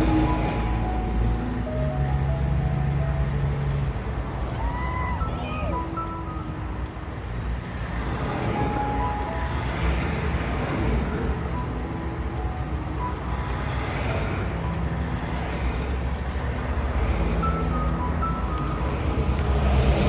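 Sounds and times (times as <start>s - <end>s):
highway traffic rumble: 0.0s - 20.0s
tyre hiss of passing vehicles: 0.0s - 20.0s.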